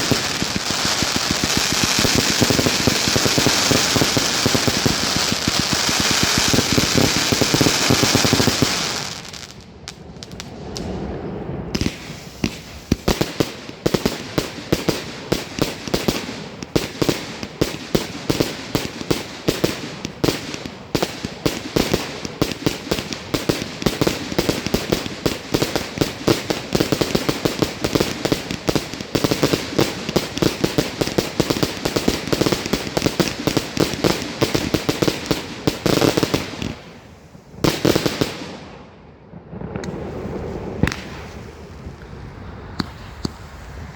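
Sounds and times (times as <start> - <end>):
fireworks cracks and bangs: 0.0 - 43.9
fireworks hissing crackle: 0.0 - 43.9.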